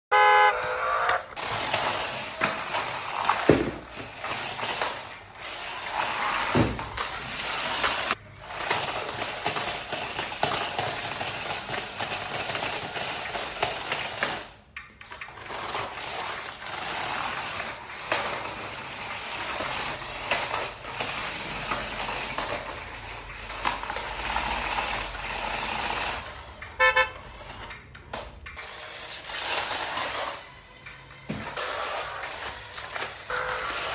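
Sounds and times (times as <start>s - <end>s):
small electric motors: 0.6s - 33.9s.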